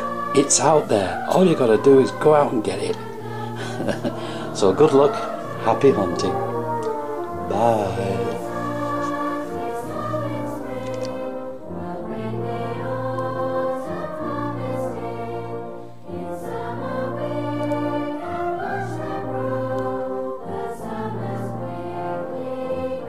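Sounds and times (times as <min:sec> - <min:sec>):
music with slow held chords: 0:00.0 - 0:23.0.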